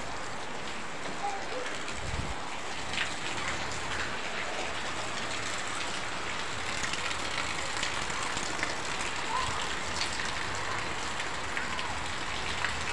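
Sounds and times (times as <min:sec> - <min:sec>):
rain on wet ground: 0:00.0 - 0:12.9.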